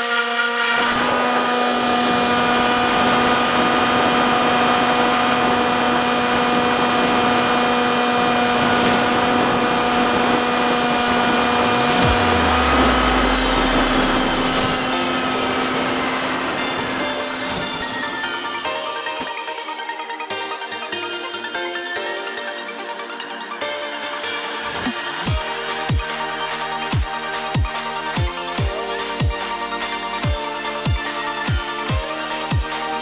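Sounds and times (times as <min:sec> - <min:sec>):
electric motor and propeller whine: 0:00.0 - 0:33.0.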